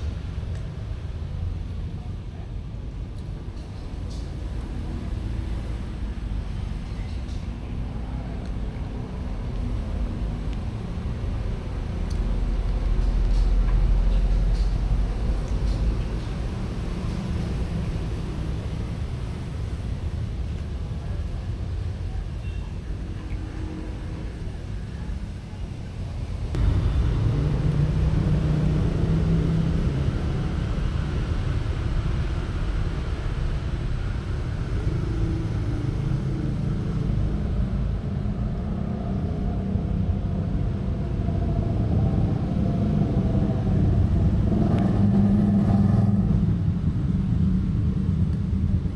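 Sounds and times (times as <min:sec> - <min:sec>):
steady low rumble: 0:00.0 - 0:48.9.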